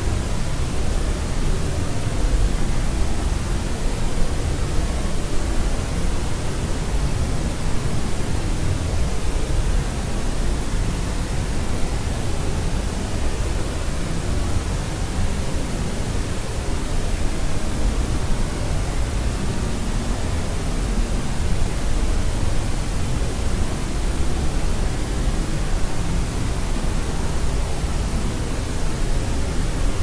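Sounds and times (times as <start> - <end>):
synthetic sleep noise hiss: 0.0 - 30.0.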